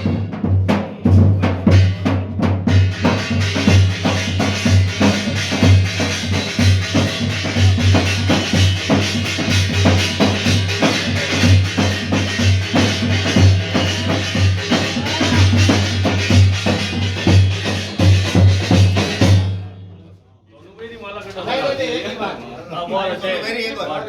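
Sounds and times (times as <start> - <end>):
music with loud drum beat: 0.0 - 20.0.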